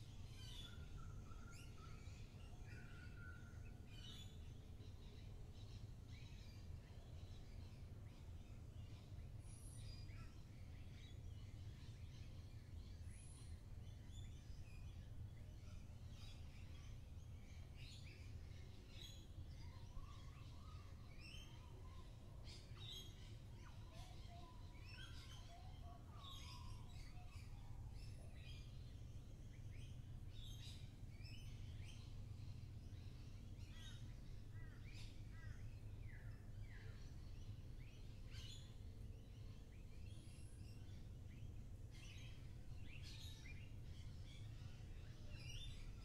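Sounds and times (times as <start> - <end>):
faint low rumble: 3.2 - 46.0.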